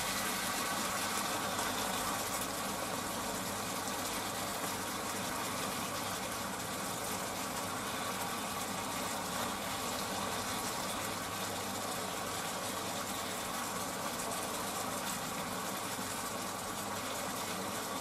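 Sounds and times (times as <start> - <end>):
food sizzling in a frying pan: 0.0 - 18.0
mechanical hum: 0.0 - 18.0.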